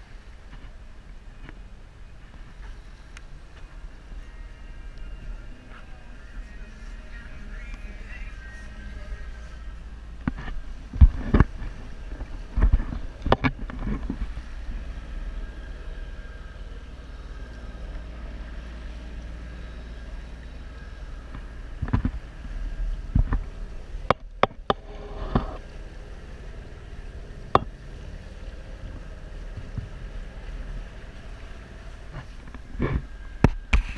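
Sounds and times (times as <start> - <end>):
low wind rumble: 0.0 - 33.9
water rushing along boat hull: 0.0 - 33.9.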